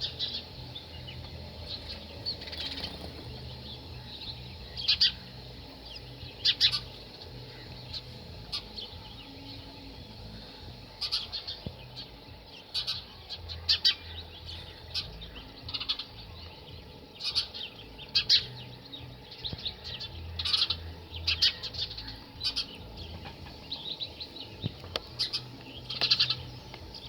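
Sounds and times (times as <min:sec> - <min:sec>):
sparrow chirping: 0:00.0 - 0:27.0.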